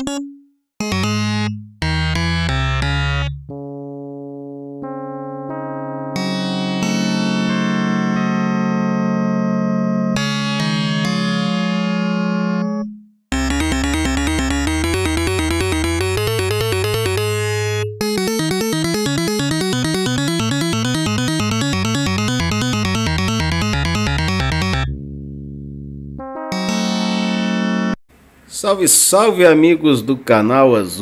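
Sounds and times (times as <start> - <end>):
synthesizer music with repeating notes: 0.0 - 28.0.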